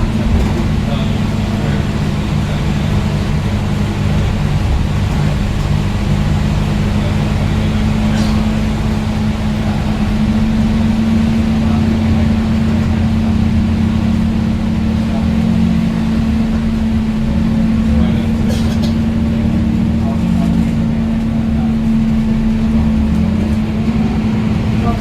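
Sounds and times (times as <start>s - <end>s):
diesel bus engine humming: 0.0s - 25.0s.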